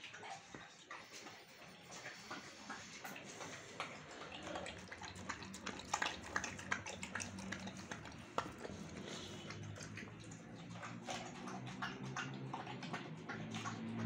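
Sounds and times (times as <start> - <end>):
dog chewing and lapping: 0.0 - 14.0.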